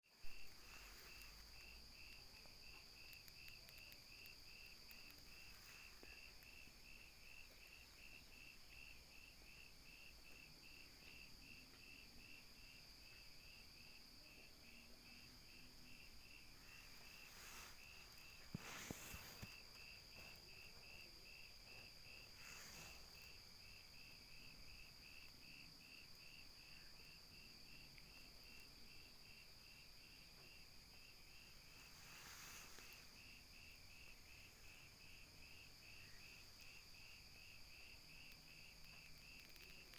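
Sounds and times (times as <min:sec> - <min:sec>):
night insects chirping: 0:00.2 - 0:39.9.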